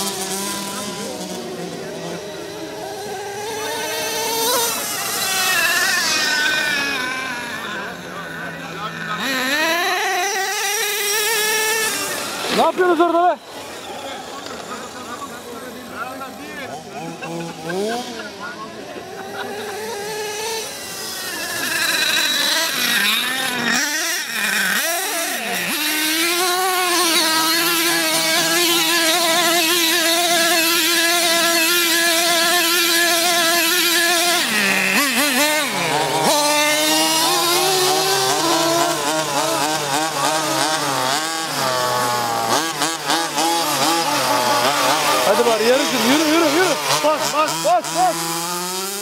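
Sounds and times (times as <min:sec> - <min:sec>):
small petrol engine whining: 0:00.0 - 0:49.0.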